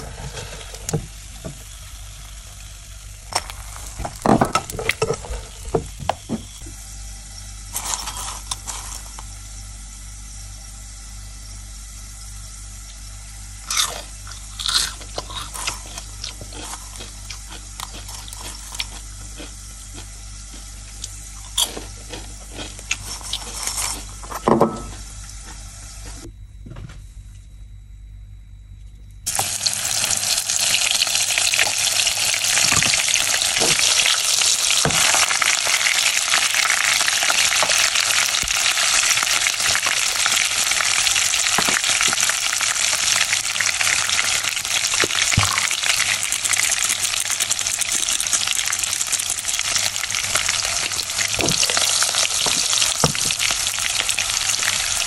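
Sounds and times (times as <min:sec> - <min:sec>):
food sizzling in hot oil: 0:00.0 - 0:21.6, 0:29.3 - 0:55.0.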